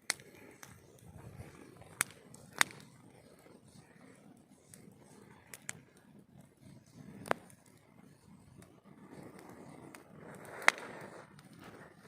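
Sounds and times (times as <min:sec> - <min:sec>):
burning wood popping: 0:00.0 - 0:12.0
campfire flames rustling: 0:00.0 - 0:12.0.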